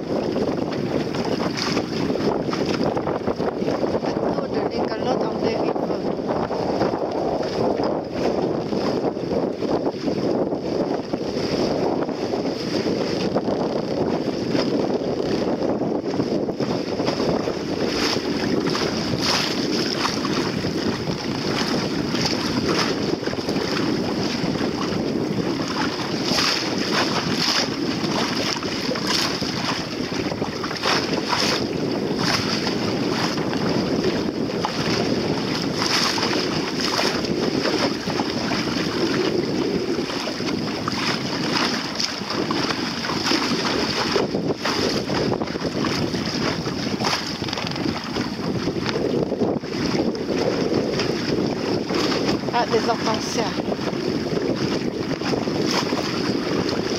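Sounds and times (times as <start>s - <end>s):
water splashing against a hull: 0.0s - 56.9s
wind on microphone: 0.0s - 56.9s.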